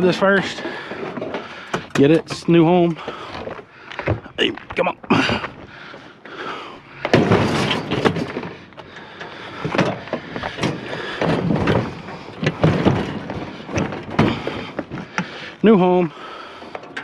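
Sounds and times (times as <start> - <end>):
metal clunks and knocks: 0.0 - 6.0, 7.0 - 17.0.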